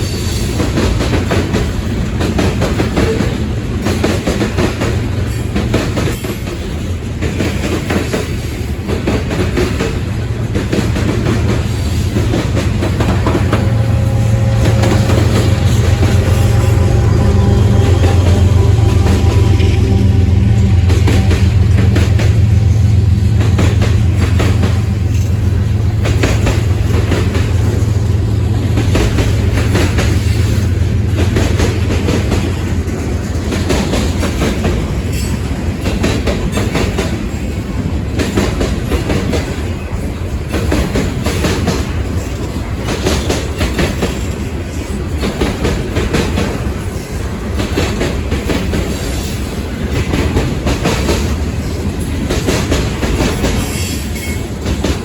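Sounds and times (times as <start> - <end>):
train wheels clacking on rail joints: 0.0 - 55.0.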